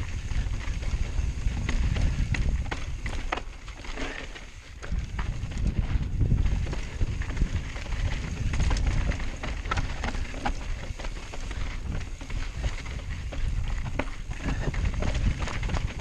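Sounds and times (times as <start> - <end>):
bike knocks and rattles: 0.0 - 16.0
tyres crunching over gravel: 0.0 - 16.0.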